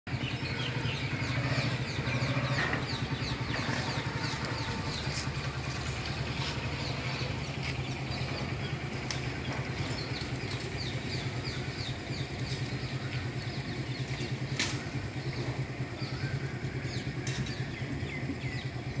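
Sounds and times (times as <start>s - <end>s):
birds chirping: 0.1s - 19.0s
idling vehicle engine hum: 0.1s - 19.0s.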